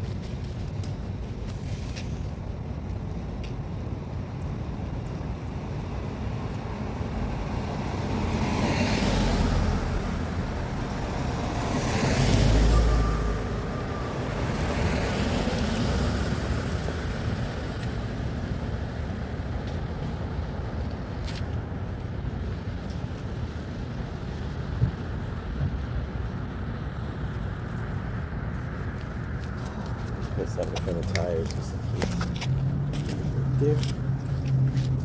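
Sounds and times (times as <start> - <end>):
cars passing by: 0.0 - 35.0
steady traffic noise: 0.0 - 35.0.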